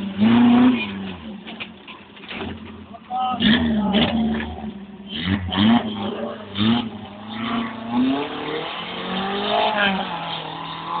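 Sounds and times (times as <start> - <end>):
off-road vehicle engine revving: 0.0 - 1.5, 3.3 - 11.0.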